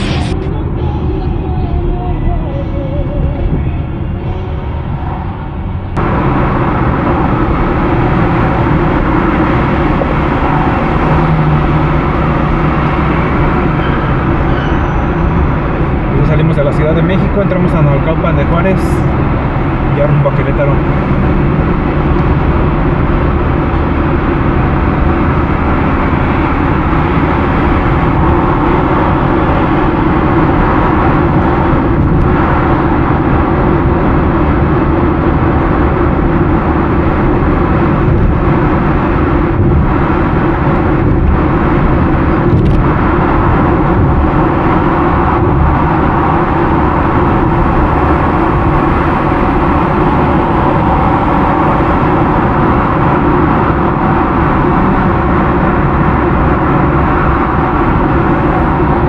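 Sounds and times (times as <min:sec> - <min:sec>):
car road and engine noise: 0:00.0 - 0:59.0.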